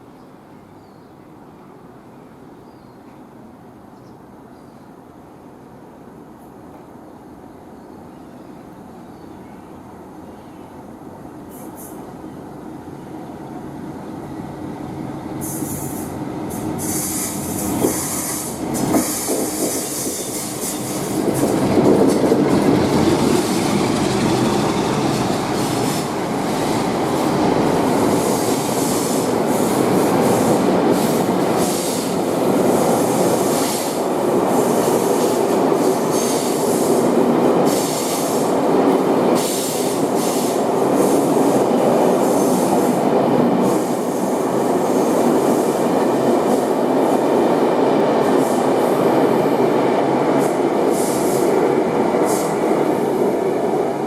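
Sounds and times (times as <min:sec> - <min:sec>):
train running on rails: 0:09.6 - 0:54.0.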